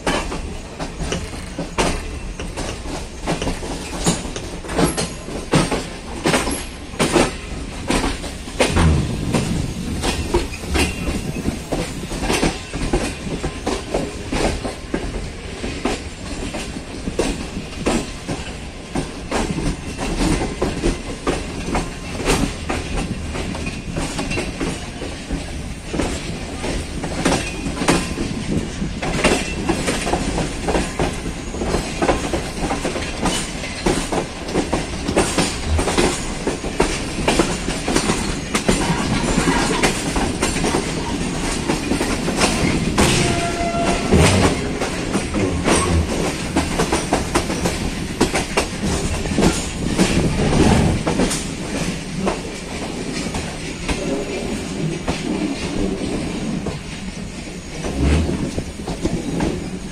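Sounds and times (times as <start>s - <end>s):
train wheels rumbling: 0.0s - 59.9s
wheels clacking over rail joints: 0.0s - 59.9s.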